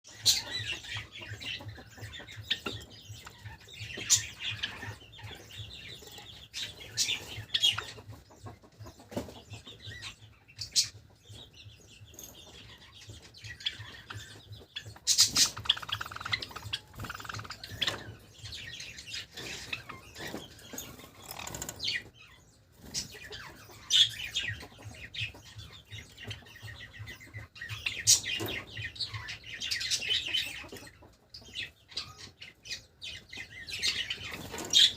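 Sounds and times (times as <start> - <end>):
sparrows chirping and clucking: 0.0 - 34.9.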